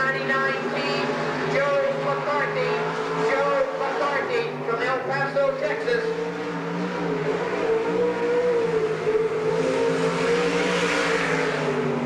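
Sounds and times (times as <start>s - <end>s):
race car engine running hard: 0.0s - 12.0s.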